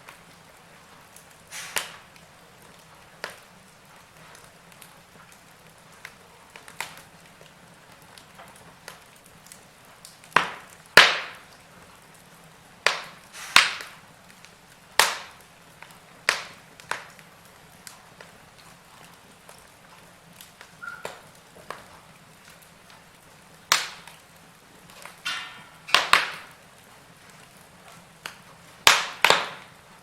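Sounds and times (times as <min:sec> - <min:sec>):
faint steady hiss: 0:00.0 - 0:30.0
logs crackling in a fireplace: 0:00.0 - 0:30.0.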